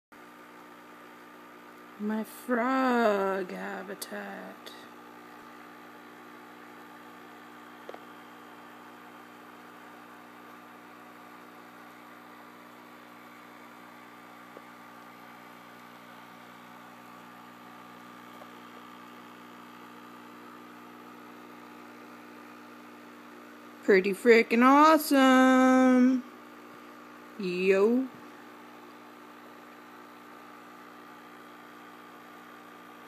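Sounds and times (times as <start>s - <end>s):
electrical hum: 0.2s - 33.0s.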